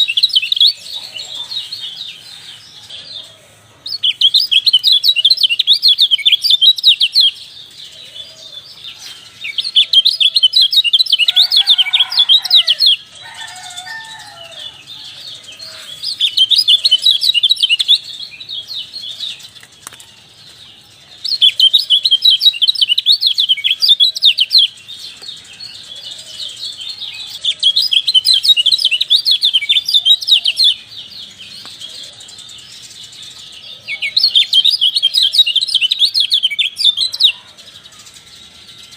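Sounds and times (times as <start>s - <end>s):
bird high rapid chirping: 0.0s - 38.9s.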